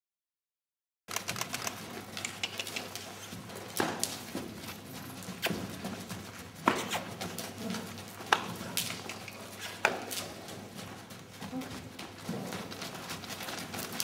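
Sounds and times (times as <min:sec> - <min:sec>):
pony hoofbeats trotting on soft ground: 0:01.1 - 0:14.0
sharp hoof knocks: 0:01.3 - 0:14.0.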